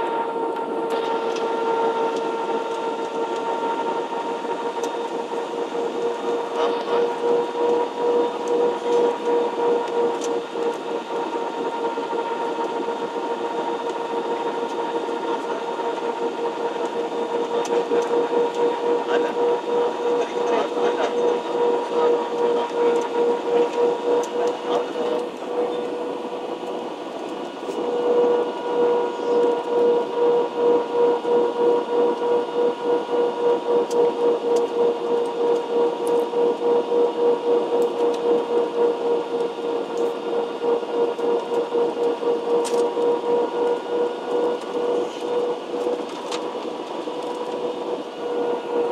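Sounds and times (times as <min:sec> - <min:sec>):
wavering hum: 0:00.0 - 0:13.8, 0:14.4 - 0:48.9
jet engines droning: 0:00.0 - 0:48.9.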